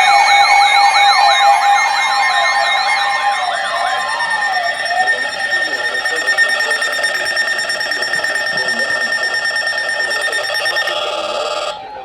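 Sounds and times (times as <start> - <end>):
held high note: 0.0 - 11.7
fast pulsing alarm tone: 0.0 - 11.8
warbling siren-like sweeps: 0.0 - 11.8.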